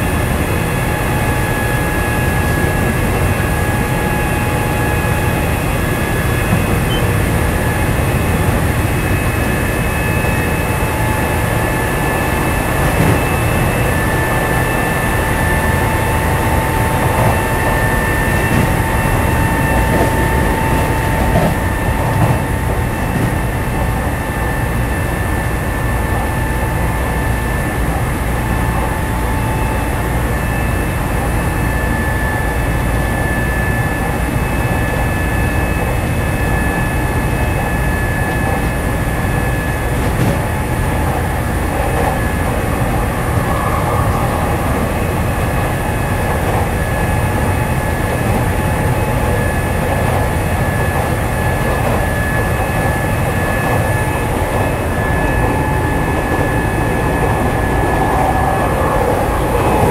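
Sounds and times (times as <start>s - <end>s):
train motor whine: 0.0s - 59.9s
wheels rumbling on rail: 0.0s - 59.9s.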